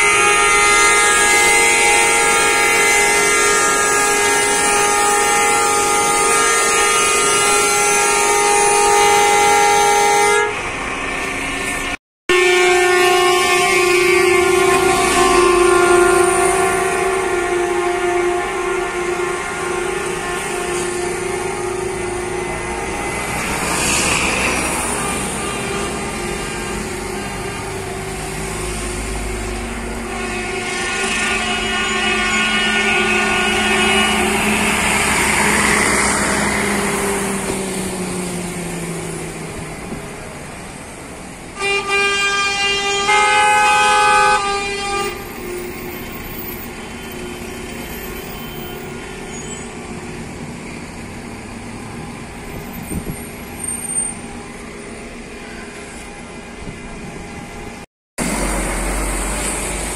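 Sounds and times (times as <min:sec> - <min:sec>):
coach horns honking: 0:00.0 - 0:39.4, 0:41.2 - 0:50.0
coach engines running: 0:00.0 - 0:59.9.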